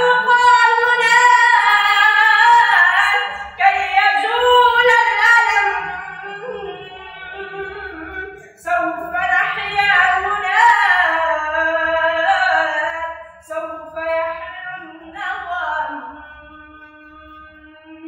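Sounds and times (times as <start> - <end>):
boy singing: 0.0 - 18.0.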